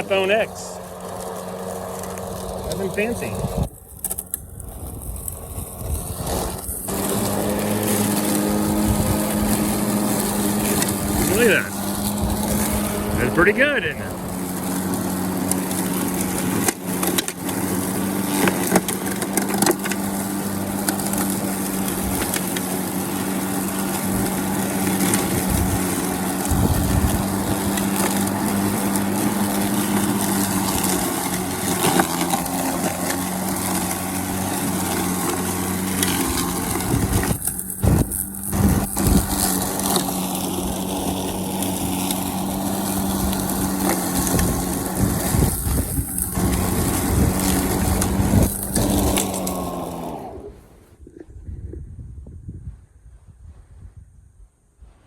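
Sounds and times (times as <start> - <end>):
electric lawn mower running: 0.0 - 50.8.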